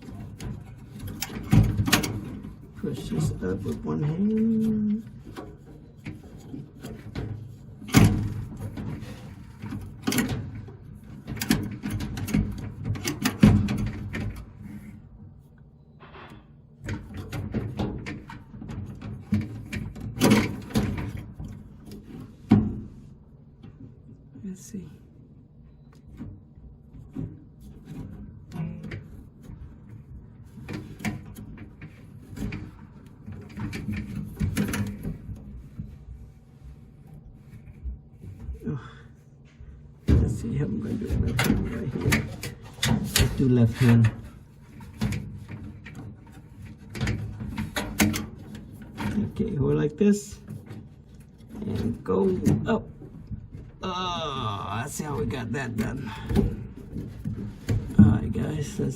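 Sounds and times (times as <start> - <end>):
dryer parts clicking and rattling: 0.0 - 58.9.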